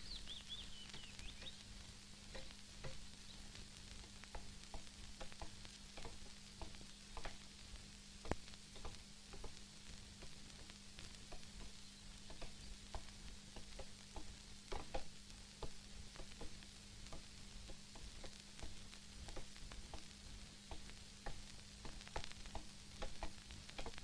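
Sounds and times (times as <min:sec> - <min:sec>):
film crackle clicks: 0:00.0 - 0:24.0
low hum: 0:00.0 - 0:24.0
steady hiss: 0:00.0 - 0:24.0.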